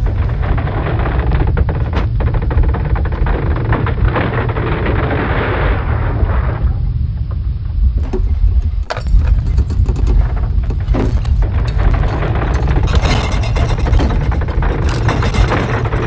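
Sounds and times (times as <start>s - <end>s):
crackling debris: 0.0s - 5.6s, 8.0s - 16.0s
deep earthquake rumble: 0.0s - 16.0s.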